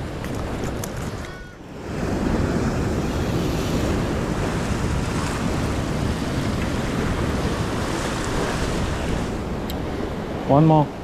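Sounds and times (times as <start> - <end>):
ocean surf against rocks: 0.0 - 11.0
wind buffeting microphone: 0.0 - 11.0.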